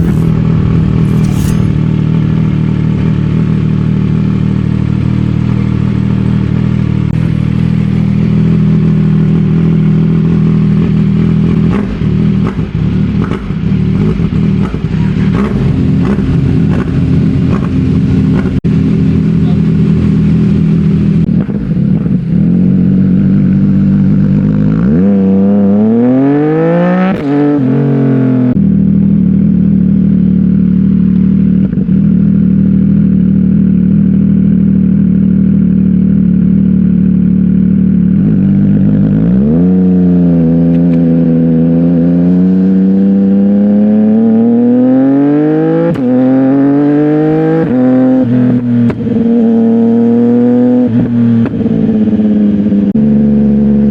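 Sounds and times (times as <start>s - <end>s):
motorcycle engine idling and revving: 0.0s - 53.9s.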